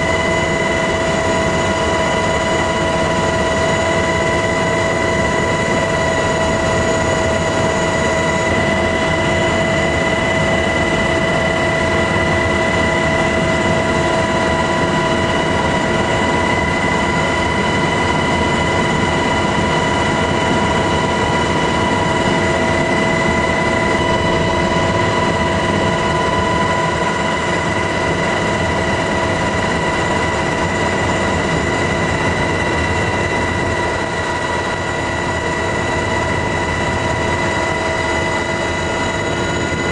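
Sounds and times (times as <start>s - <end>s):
helicopter engine and rotor rumble: 0.0s - 39.9s.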